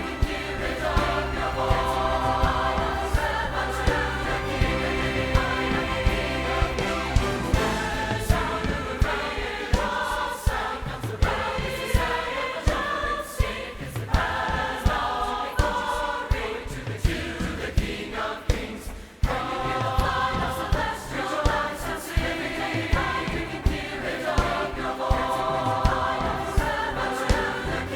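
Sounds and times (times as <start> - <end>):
choir singing: 0.0 - 27.9.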